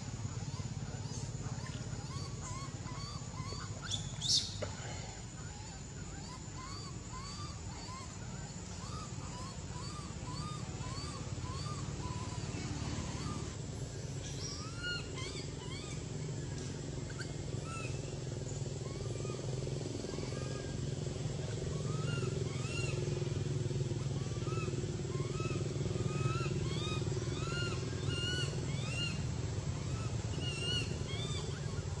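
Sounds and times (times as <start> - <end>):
low motor drone: 0.0 - 32.0.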